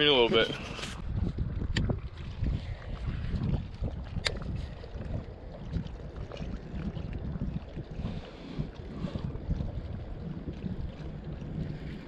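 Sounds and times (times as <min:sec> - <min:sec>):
faint water noise: 0:00.0 - 0:12.0
wind buffeting microphone: 0:00.0 - 0:12.0.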